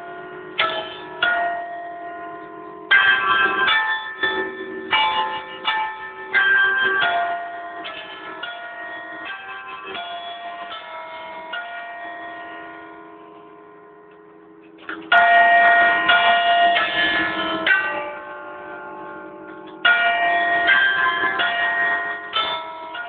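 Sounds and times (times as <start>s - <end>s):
church bells chiming a tune: 0.0s - 23.0s.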